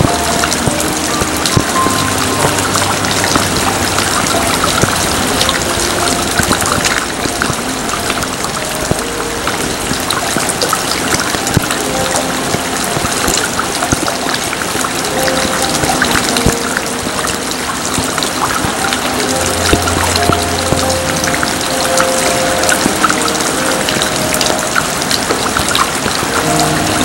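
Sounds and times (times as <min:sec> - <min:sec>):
heavy rain: 0:00.0 - 0:27.0
water trickling and splashing: 0:00.0 - 0:27.0.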